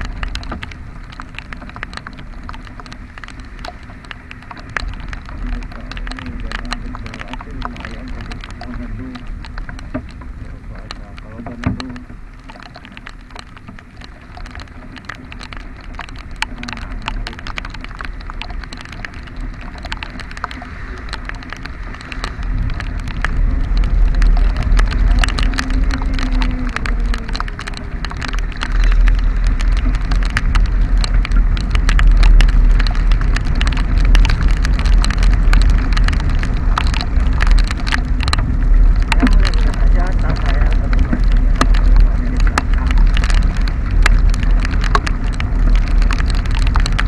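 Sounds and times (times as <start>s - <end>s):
heavy rain pattering: 0.0s - 47.0s
low rumble: 0.0s - 47.0s.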